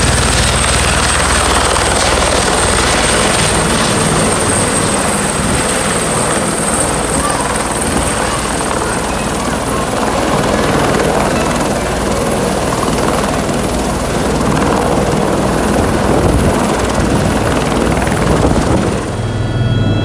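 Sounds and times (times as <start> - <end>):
helicopter rotor and turbine noise: 0.0 - 20.0
high turbine whine: 0.0 - 20.0
wind gusting over microphone: 0.0 - 20.0.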